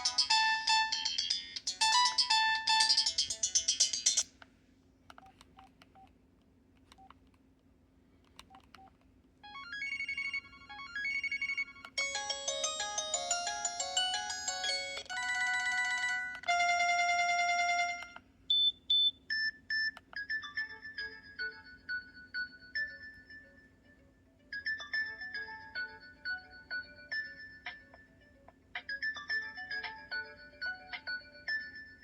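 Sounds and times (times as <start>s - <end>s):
phone ringtone melodies and beeps: 0.0s - 4.2s, 9.4s - 32.0s.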